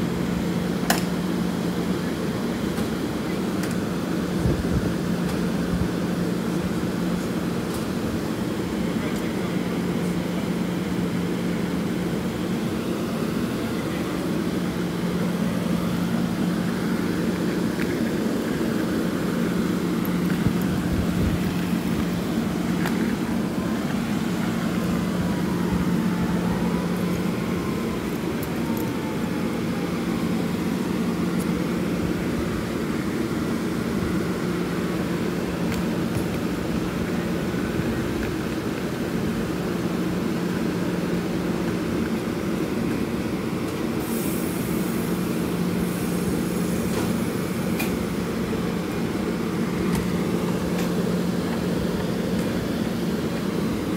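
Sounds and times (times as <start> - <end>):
train idling with low hum: 0.0 - 53.9.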